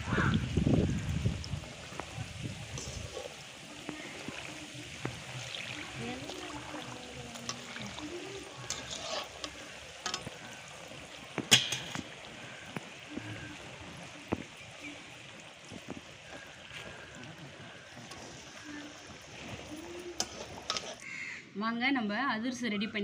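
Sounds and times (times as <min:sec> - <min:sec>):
oil sizzling and bubbling: 0:00.0 - 0:21.2.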